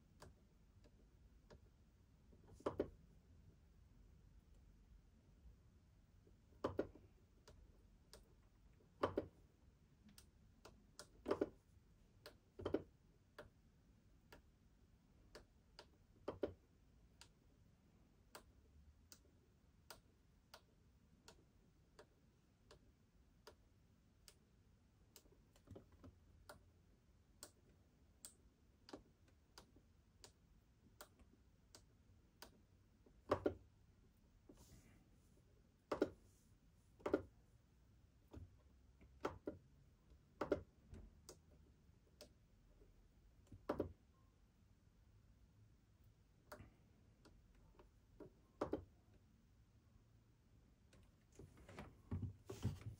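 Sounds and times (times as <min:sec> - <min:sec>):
faint irregular clicks: 0:00.0 - 0:03.1, 0:06.2 - 0:44.3, 0:46.0 - 0:49.3.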